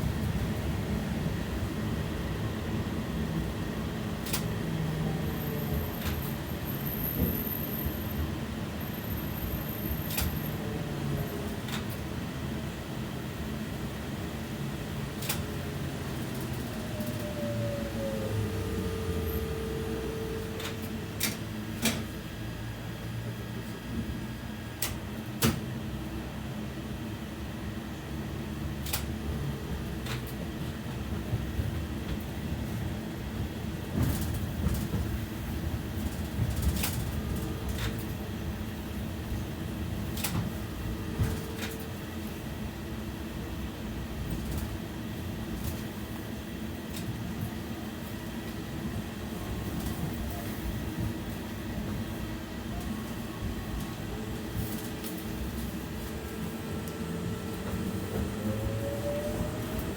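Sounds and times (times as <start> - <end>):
tram wheels and motors rumbling: 0.0 - 59.9.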